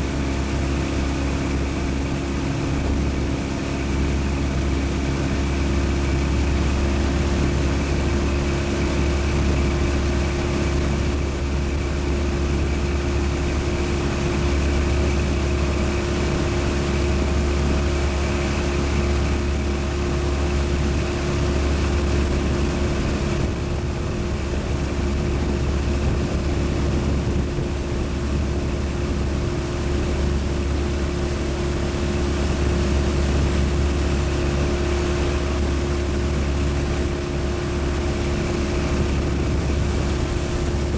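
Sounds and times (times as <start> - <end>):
motorboat engine humming: 0.0 - 40.9.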